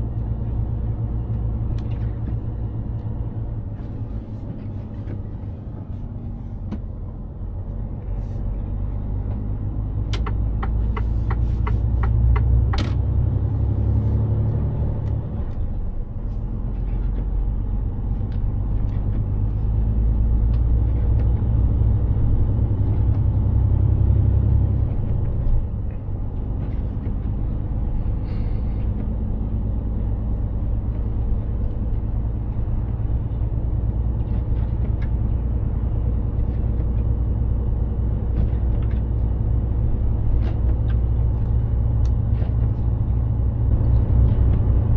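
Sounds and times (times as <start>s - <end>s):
truck engine rumbling: 0.0s - 44.9s.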